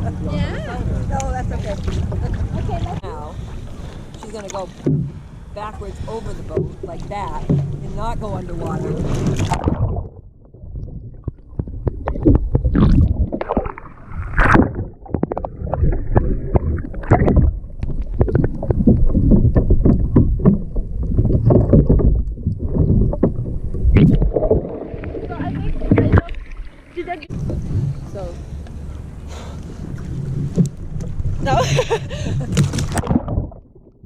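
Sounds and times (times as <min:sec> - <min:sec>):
water splashing around a kayak: 0:00.0 - 0:34.0
wind rumbling on microphone: 0:00.0 - 0:34.0.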